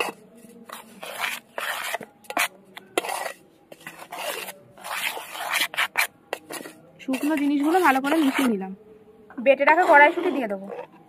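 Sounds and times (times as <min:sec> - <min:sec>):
spoon scraping metal bowl: 0:00.0 - 0:08.7, 0:09.5 - 0:11.0.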